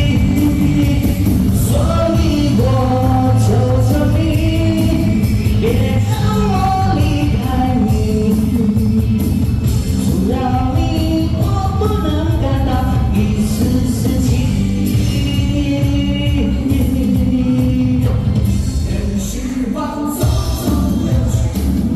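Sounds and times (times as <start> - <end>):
pop song over sound system: 0.0 - 21.9.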